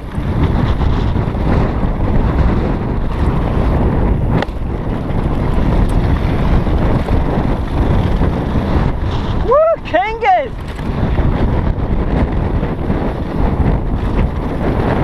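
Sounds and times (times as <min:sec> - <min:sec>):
bike rattling on dirt trail: 0:00.0 - 0:15.0
wind buffeting microphone: 0:00.0 - 0:15.0.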